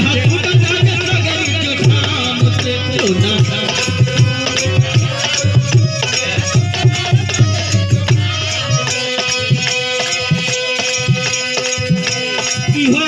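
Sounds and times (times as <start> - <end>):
hand-drum beat: 0.0 - 13.0
held melody notes: 0.0 - 13.0.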